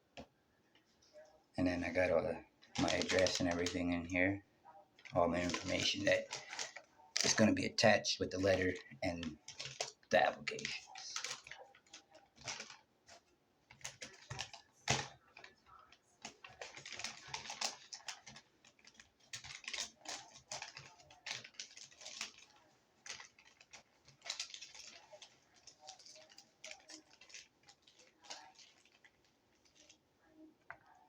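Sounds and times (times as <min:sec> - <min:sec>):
handling noise clicks and crackles: 0:02.1 - 0:04.3, 0:05.0 - 0:31.0.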